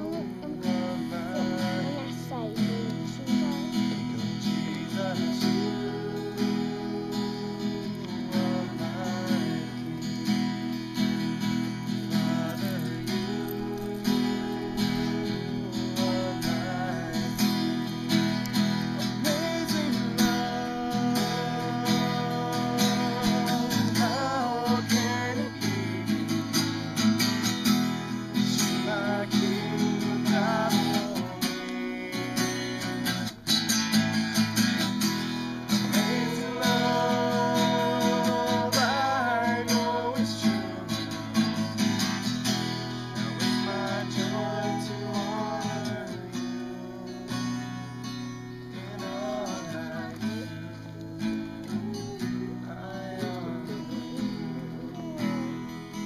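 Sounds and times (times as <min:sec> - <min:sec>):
person singing: 0:00.0 - 0:33.4, 0:34.9 - 0:56.0
acoustic guitar strumming: 0:00.0 - 0:56.0.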